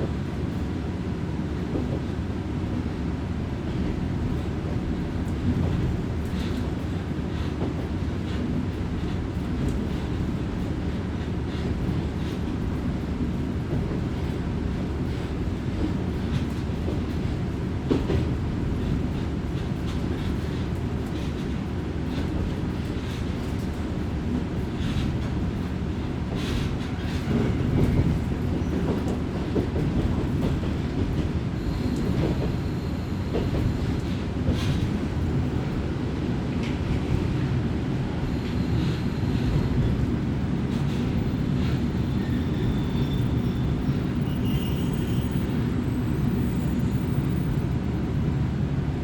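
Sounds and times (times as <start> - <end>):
railcar engine and wheels rumble: 0.0 - 49.0.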